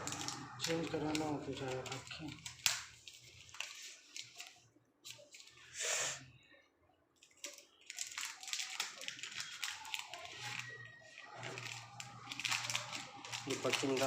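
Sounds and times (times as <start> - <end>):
packaging rustling and crinkling: 0.0 - 5.7, 7.2 - 14.0.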